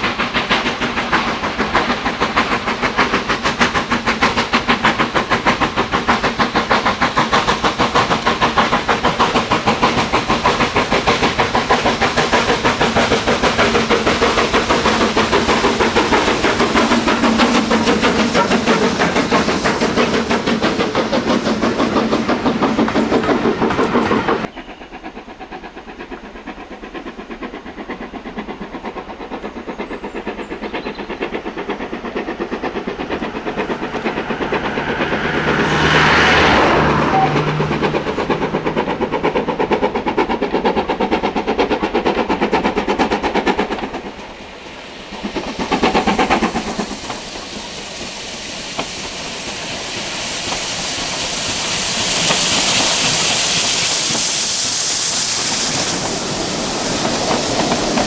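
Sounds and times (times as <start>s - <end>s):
steam train rhythmic beats: 0.0s - 58.0s.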